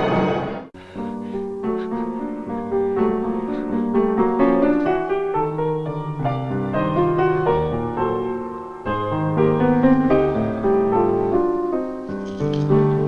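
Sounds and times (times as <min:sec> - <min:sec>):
slow piano melody: 0:00.7 - 0:13.0.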